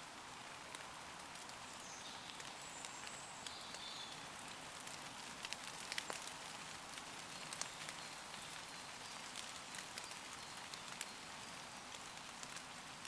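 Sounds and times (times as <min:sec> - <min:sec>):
rain falling on leaves: 0:00.0 - 0:13.0.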